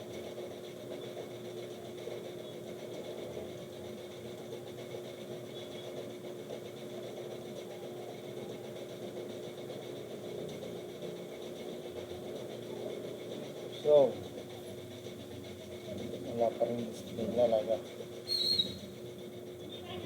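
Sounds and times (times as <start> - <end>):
fan whirring: 0.0 - 20.0.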